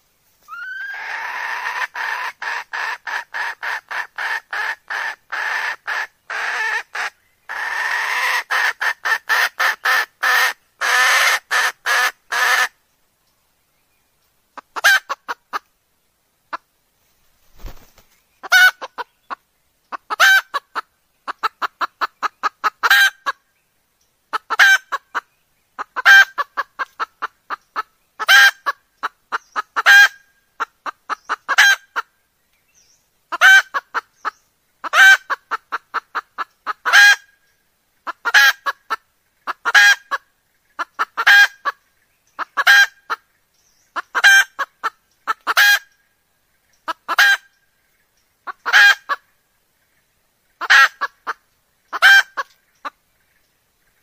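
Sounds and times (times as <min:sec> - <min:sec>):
hen clucking and calling: 0:00.4 - 0:12.8, 0:14.5 - 0:15.8, 0:16.5 - 0:16.7, 0:17.5 - 0:23.5, 0:24.3 - 0:54.0.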